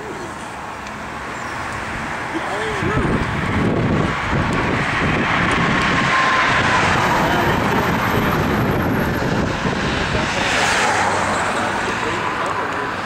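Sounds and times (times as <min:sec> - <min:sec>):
car road noise: 0:00.0 - 0:13.0.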